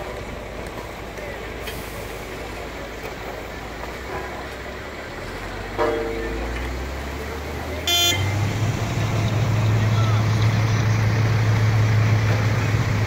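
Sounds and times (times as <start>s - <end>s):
paving machinery engine rumble: 0.0s - 13.0s.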